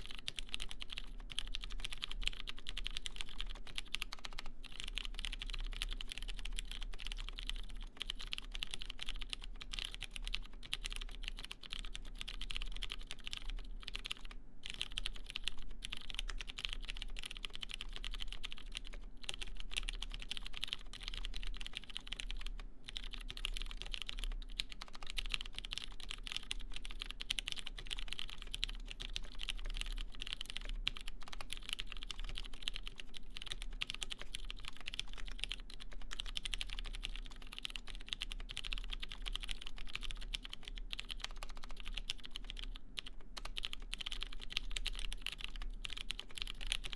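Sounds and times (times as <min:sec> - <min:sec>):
fast typing on mechanical keyboard: 0:00.0 - 0:46.9.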